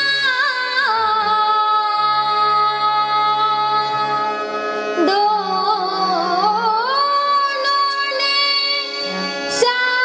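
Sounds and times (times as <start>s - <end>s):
girl singing: 0.0s - 4.0s, 5.0s - 8.9s, 9.5s - 10.0s
harmonium: 0.0s - 10.0s.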